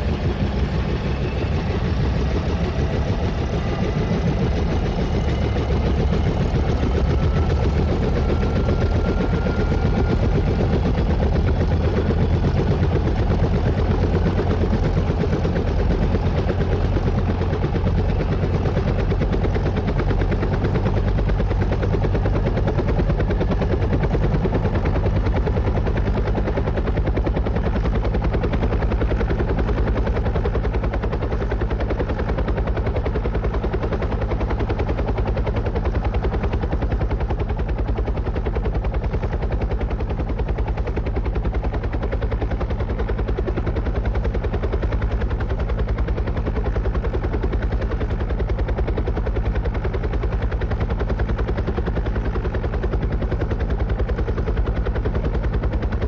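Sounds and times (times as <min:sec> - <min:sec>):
helicopter rotor blades chopping: 0:00.0 - 0:56.0.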